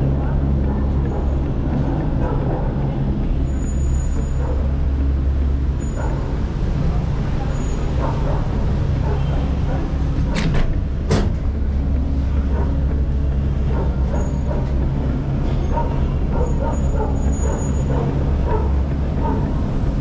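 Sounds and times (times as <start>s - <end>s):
cable car cabin humming: 0.0s - 20.0s.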